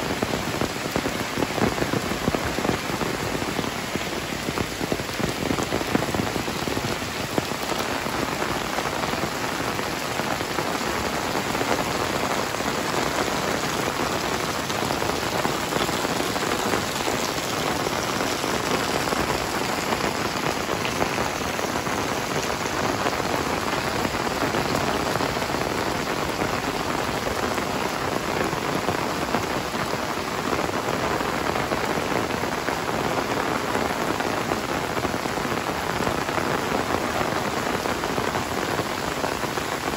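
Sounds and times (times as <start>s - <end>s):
heavy rain on roofs: 0.0s - 39.9s.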